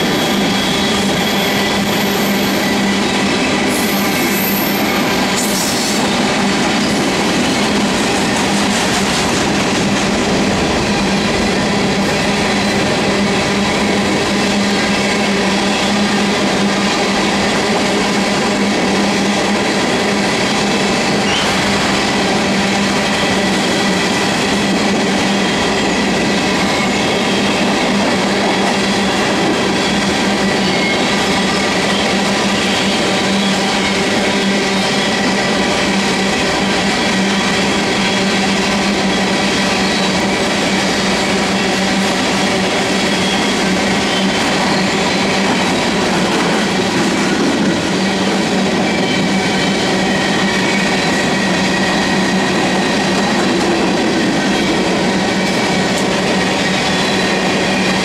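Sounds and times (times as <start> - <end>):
railcar wheels rumbling and rattling: 0.0 - 58.0.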